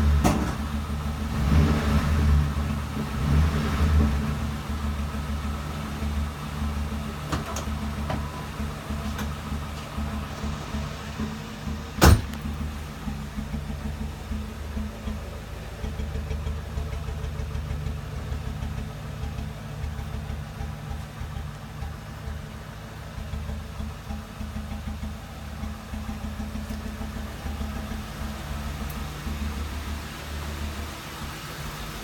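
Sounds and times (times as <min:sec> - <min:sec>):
car engine idling roughly: 0:00.0 - 0:32.0.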